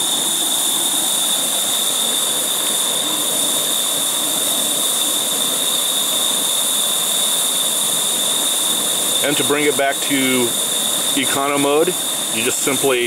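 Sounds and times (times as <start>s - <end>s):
stove flame rushing: 0.0s - 13.0s.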